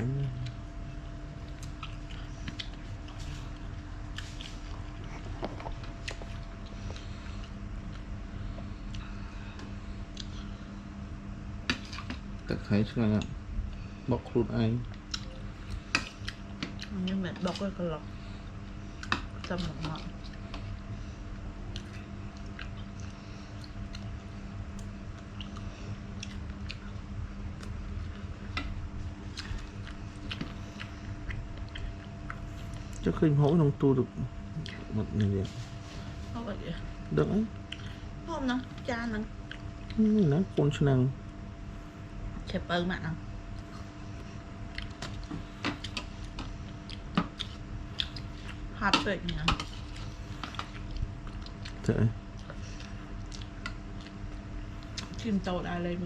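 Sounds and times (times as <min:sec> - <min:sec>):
person chewing and crunching food: 0:00.0 - 0:36.3, 0:37.0 - 0:38.2, 0:38.8 - 0:42.1, 0:43.4 - 0:55.3
faint steady hum: 0:00.0 - 0:56.0.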